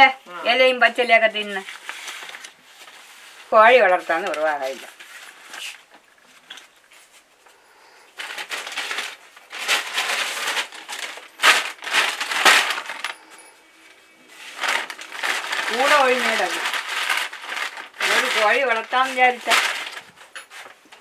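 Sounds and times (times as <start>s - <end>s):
plastic bags and papers rustling: 0.0s - 7.4s, 8.1s - 21.0s.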